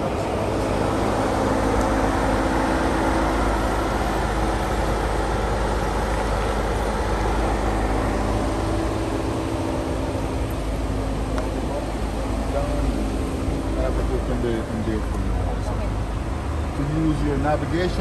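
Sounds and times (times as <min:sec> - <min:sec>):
car engine low hum: 0:00.0 - 0:18.0.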